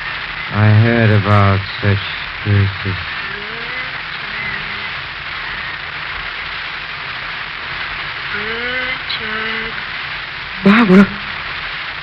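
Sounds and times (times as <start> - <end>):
rain and wind hiss: 0.0 - 12.0.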